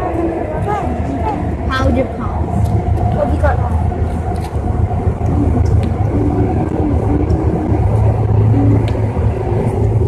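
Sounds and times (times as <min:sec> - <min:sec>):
faint broken whine: 0:00.0 - 0:10.0
metro train rumbling: 0:00.0 - 0:10.0.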